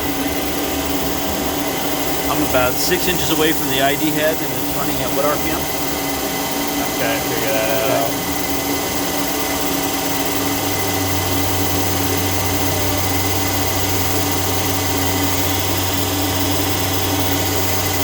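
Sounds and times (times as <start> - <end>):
grinder spindle whine: 0.0 - 18.0.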